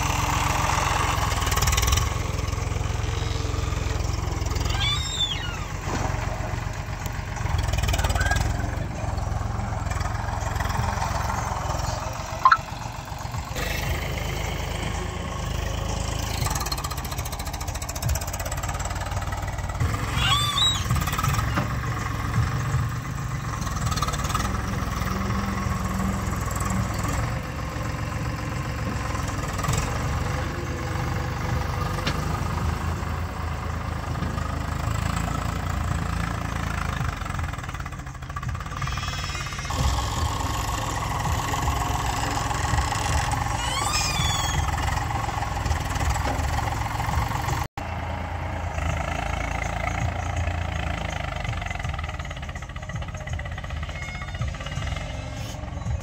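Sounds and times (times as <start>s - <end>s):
diesel tractor engines running: 0.0s - 56.0s.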